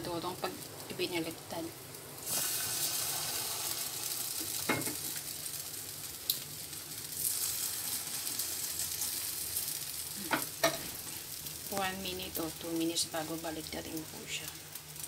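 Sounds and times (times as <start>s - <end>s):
omelette sizzling in oil: 0.0s - 15.0s.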